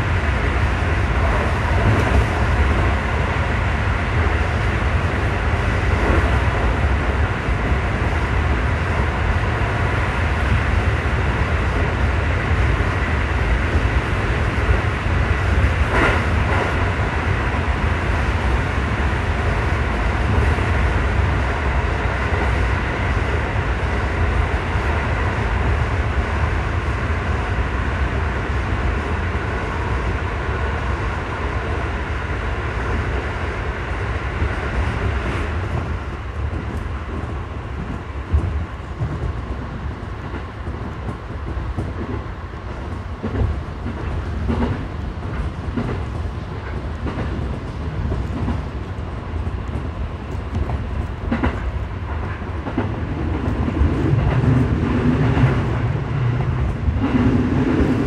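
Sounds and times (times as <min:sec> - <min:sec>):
train wheels rumbling in tunnel: 0:00.0 - 0:58.0.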